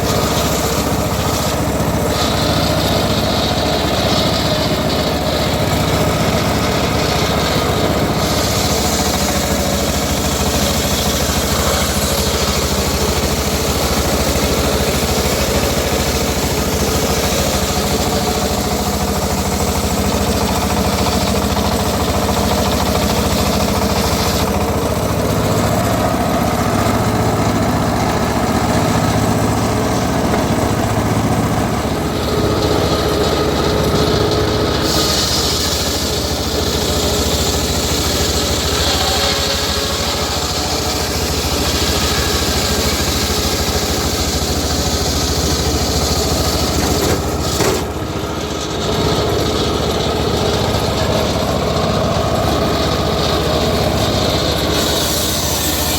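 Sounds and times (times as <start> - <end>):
saw engine droning: 0.0 - 55.9.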